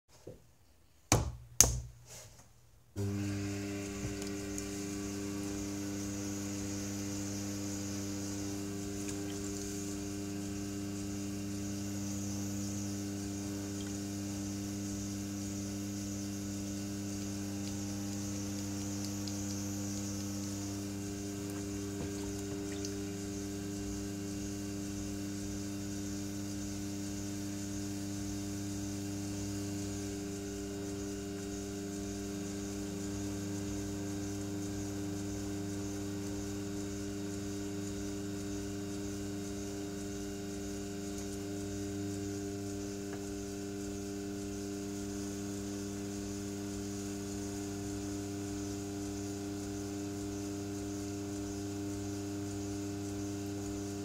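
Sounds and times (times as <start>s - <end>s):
potter's wheel humming: 3.0s - 54.0s.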